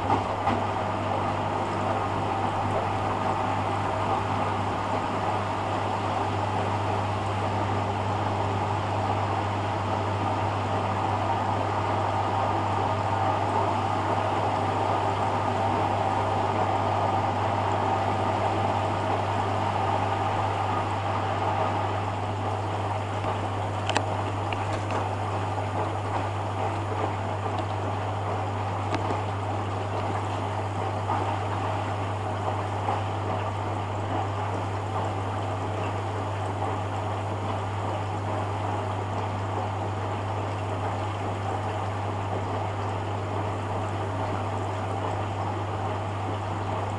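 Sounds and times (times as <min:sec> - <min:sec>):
water swishing in washing machine: 0:00.0 - 0:46.9.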